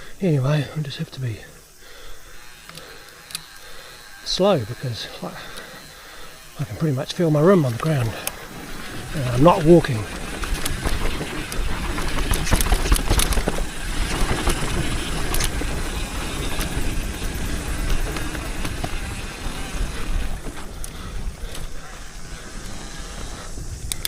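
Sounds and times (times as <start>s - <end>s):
bike tyre rolling on dirt: 0.0s - 24.0s.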